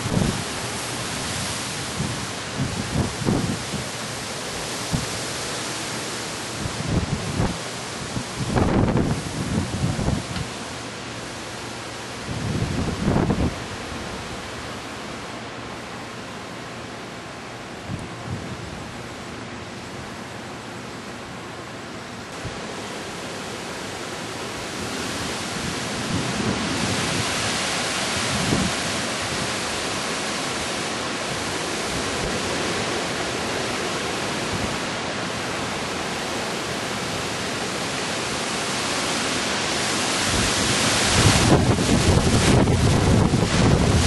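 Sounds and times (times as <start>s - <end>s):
strong wind rushing through trees: 0.0s - 44.0s.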